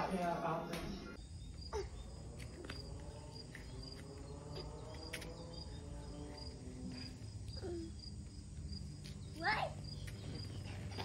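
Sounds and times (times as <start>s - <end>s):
crickets chirping: 1.1s - 11.0s.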